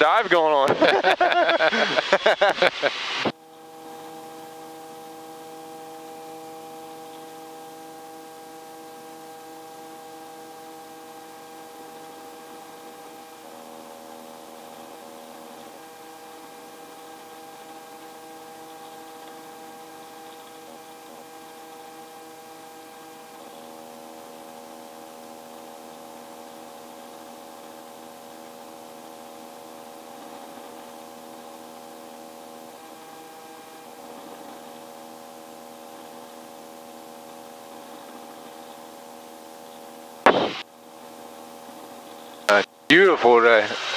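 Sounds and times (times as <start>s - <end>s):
helicopter cabin drone: 0.0s - 43.9s.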